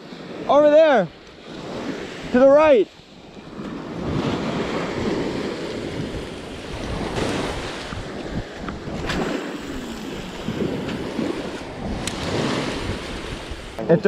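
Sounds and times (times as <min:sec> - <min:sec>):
surf waves washing on sand: 0:00.0 - 0:14.0
wind buffeting microphone: 0:01.3 - 0:14.0.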